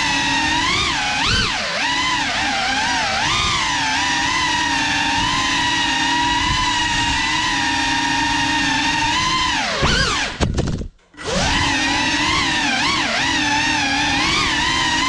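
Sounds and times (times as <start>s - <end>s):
drone motors whining: 0.0s - 10.4s, 11.2s - 15.0s.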